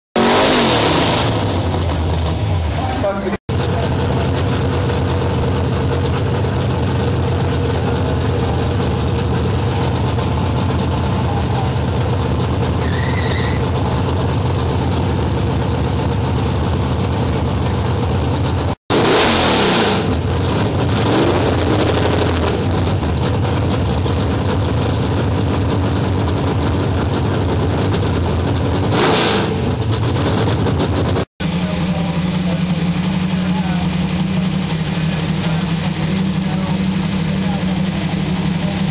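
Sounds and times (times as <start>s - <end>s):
car engine idling loudly: 0.2s - 38.9s.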